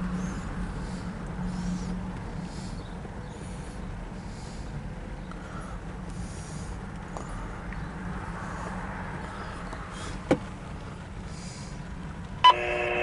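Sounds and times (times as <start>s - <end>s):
truck cab rumble: 0.0s - 13.0s.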